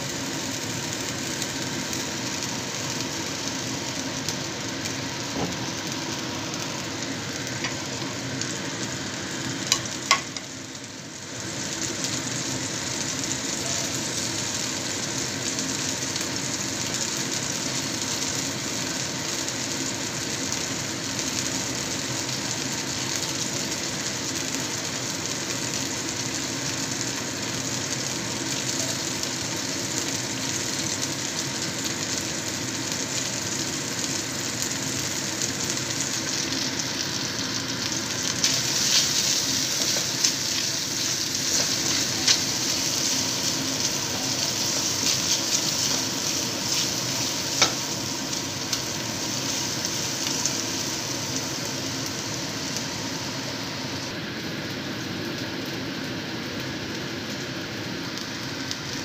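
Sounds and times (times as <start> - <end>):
garlic sizzling in hot oil: 0.0 - 59.0.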